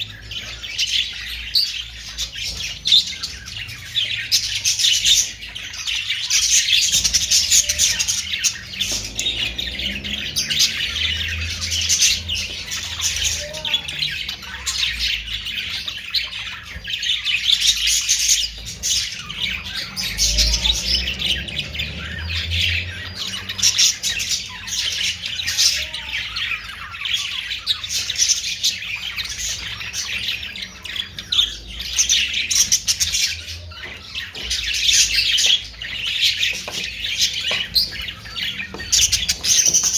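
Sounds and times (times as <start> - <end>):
parrots chattering and chirping: 0.0 - 39.9.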